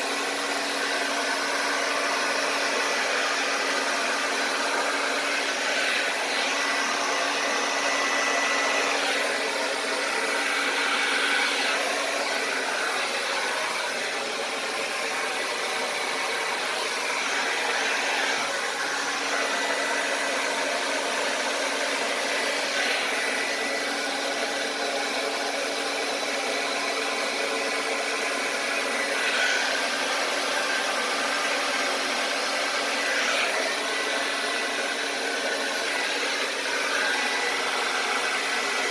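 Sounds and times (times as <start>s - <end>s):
blow dryer running: 0.0s - 38.9s.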